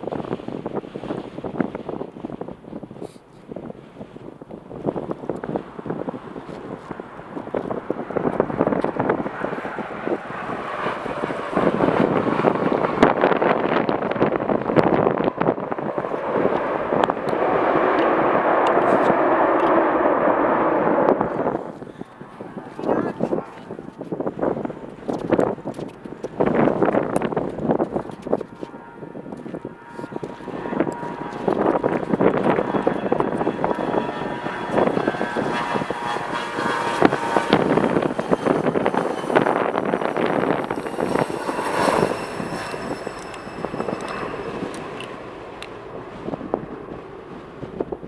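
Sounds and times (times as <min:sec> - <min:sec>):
jet airliner engine noise: 0:00.0 - 0:48.0
wind buffeting microphone: 0:00.0 - 0:48.0.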